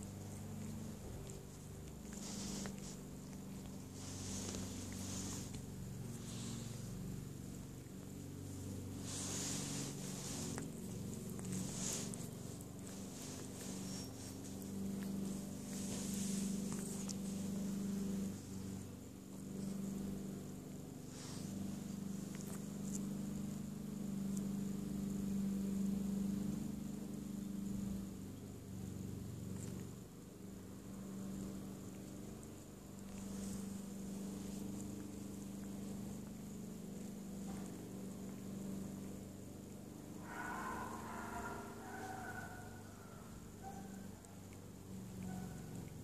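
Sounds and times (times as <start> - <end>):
faint licking clicks: 0.0 - 9.1, 9.8 - 40.2, 43.3 - 46.0
kitten purring: 0.0 - 46.0
steady low hum: 0.0 - 46.0.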